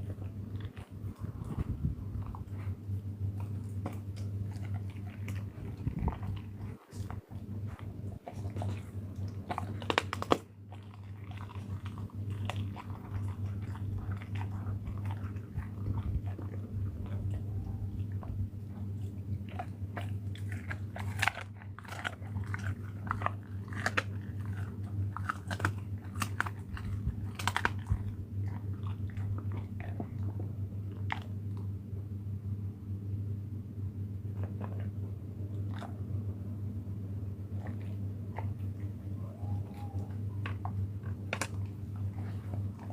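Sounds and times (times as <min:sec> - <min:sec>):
animal chewing and crunching food: 0:00.0 - 0:31.8, 0:34.2 - 0:42.9
steady low hum: 0:00.0 - 0:42.9.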